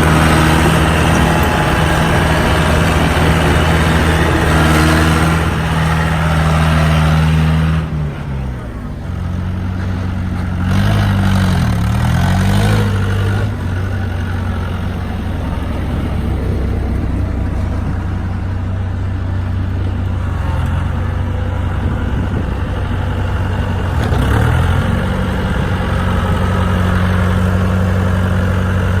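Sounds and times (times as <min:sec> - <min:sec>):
tractor engine idling and revving: 0:00.0 - 0:29.0.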